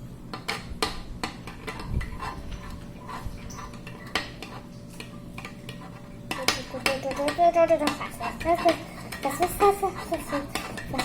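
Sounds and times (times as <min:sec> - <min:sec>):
utensil stirring slime: 0:00.2 - 0:11.0
clinks and scrapes in container: 0:01.7 - 0:11.0.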